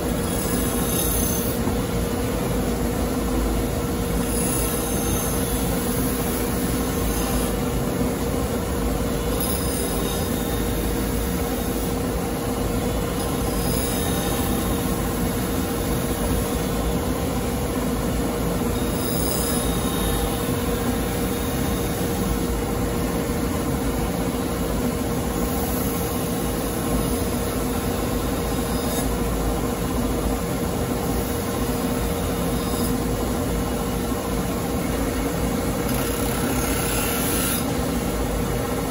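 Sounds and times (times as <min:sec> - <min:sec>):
knife polished on spinning wheel: 0:00.0 - 0:23.2, 0:24.4 - 0:38.9.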